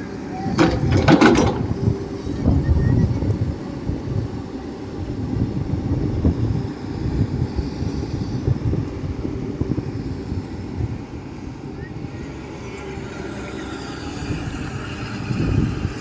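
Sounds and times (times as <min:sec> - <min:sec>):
excavator engine rumbling: 0:00.0 - 0:16.0.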